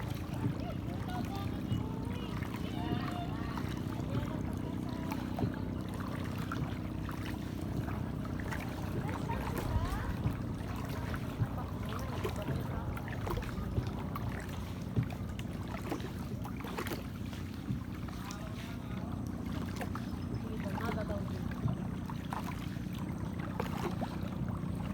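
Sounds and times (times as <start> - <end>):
boat engine humming: 0.0 - 24.9
water splashes and knocks: 0.0 - 24.9.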